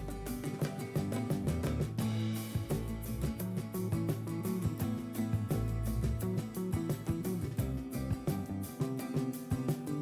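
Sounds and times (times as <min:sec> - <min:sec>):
plucked guitar notes: 0:00.0 - 0:10.0
steady beat: 0:00.0 - 0:10.0.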